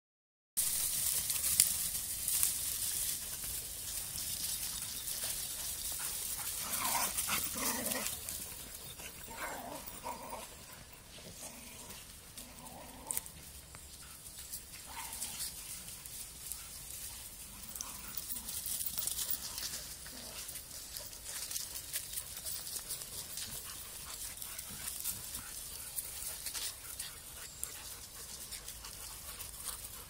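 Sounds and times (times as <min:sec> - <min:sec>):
dogs running through dry leaves: 0:00.6 - 0:30.0
dogs barking and yipping: 0:02.4 - 0:30.0.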